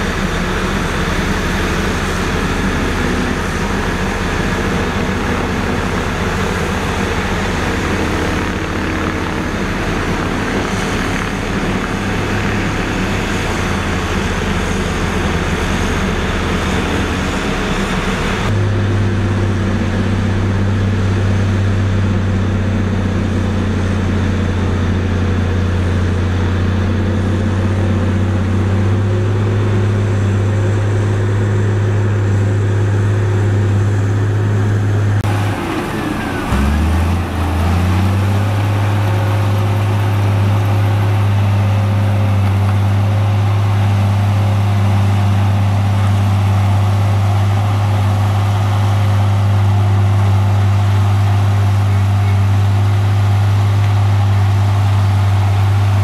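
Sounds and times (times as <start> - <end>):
bulldozer engine: 0.0 - 56.0
road roller engine hum: 0.0 - 56.0.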